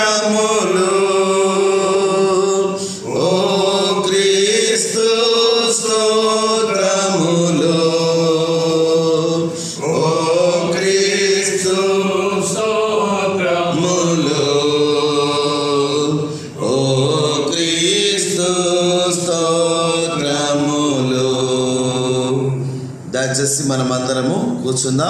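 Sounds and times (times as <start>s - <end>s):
voices singing a slow chant: 0.0s - 23.0s.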